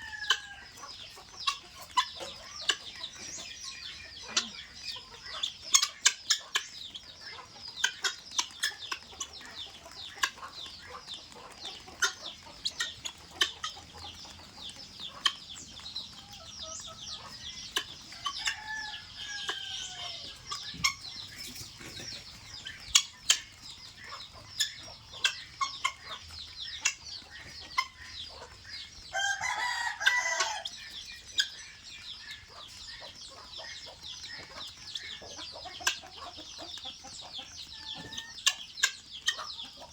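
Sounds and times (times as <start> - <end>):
guinea fowl chirping: 0.0 - 39.9.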